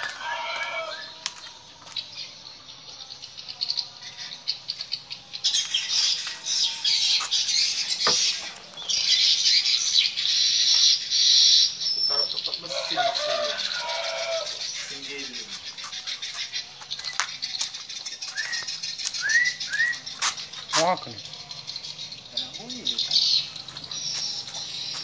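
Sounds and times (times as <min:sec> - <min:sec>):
birds chattering shrilly: 0:00.0 - 0:25.0
lower falling bird calls: 0:04.2 - 0:25.0.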